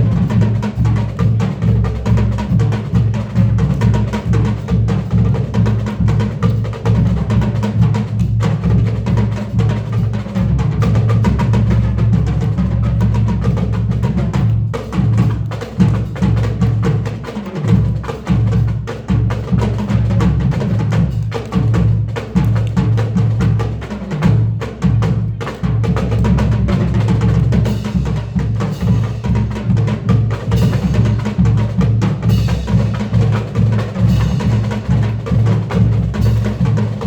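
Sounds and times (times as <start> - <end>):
heavy bass drums: 0.0 - 37.0
marching drums playing: 0.0 - 37.0.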